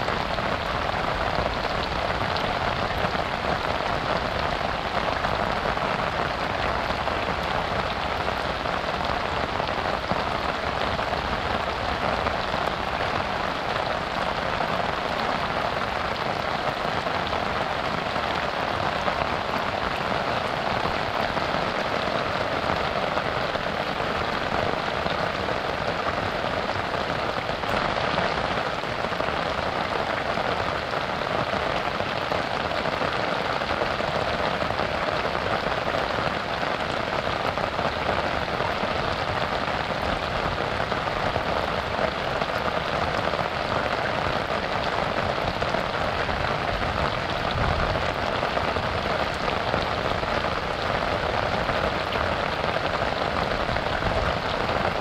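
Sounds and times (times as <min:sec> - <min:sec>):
rain falling on river: 0:00.0 - 0:55.0.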